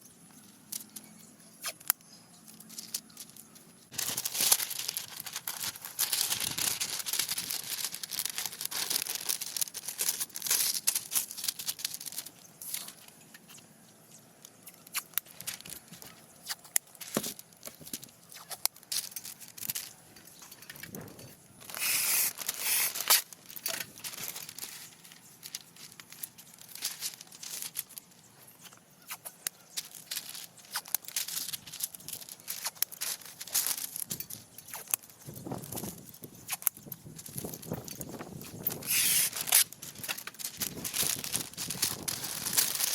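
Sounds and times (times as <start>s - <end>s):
rustling and crinkling handling: 0.2s - 42.9s.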